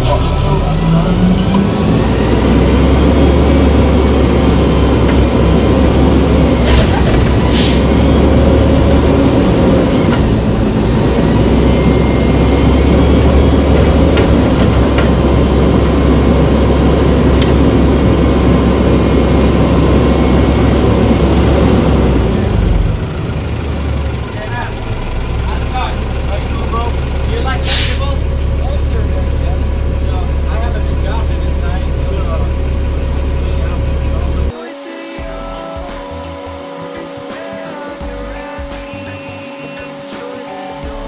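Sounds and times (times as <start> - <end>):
diesel truck engine running: 0.0 - 41.0.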